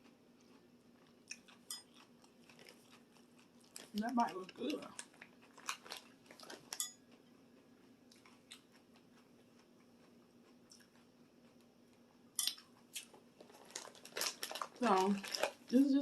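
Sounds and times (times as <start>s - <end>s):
light eating crunches: 0.0s - 16.0s.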